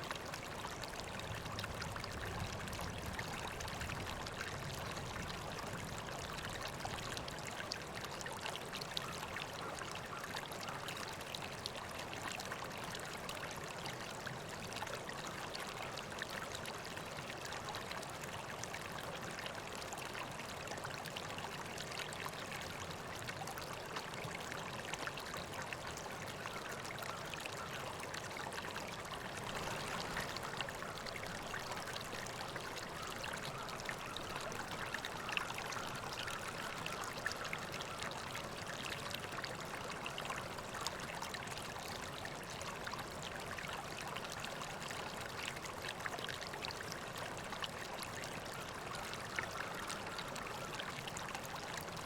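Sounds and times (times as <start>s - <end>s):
river water flowing: 0.0s - 52.0s
water trickling and splashing: 0.0s - 52.0s.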